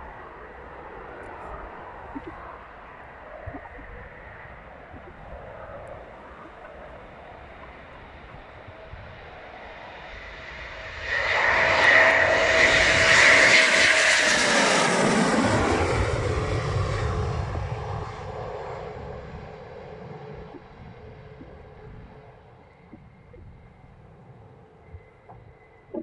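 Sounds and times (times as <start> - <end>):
jet engines passing low overhead: 0.0 - 26.0.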